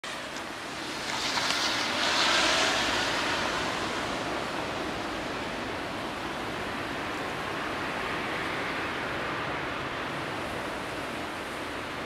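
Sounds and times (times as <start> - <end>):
blizzard wind blowing: 0.0 - 12.0.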